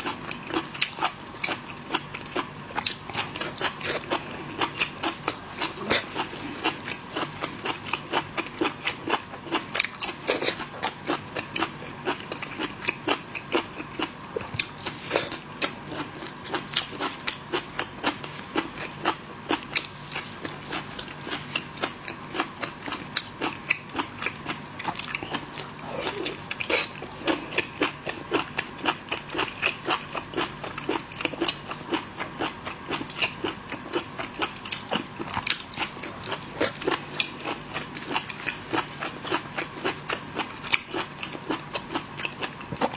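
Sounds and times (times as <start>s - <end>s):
chewing and crunching seafood: 0.0s - 42.9s.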